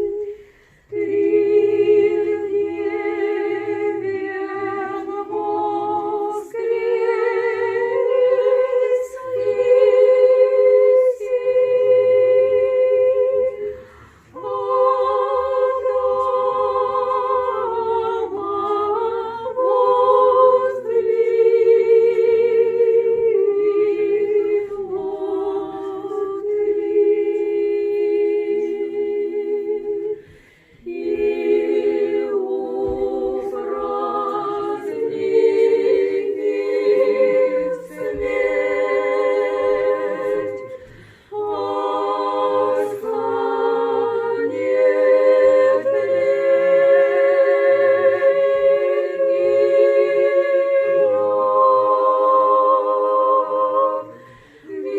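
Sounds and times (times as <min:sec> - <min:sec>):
church choir chanting a cappella: 0:00.0 - 0:54.9.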